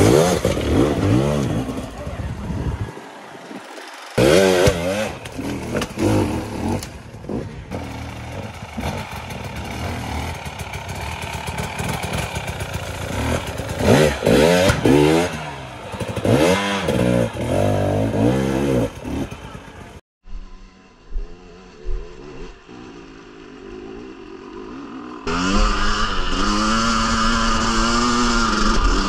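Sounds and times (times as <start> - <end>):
dirt bike engine revving: 0.0 - 20.0, 20.6 - 29.0.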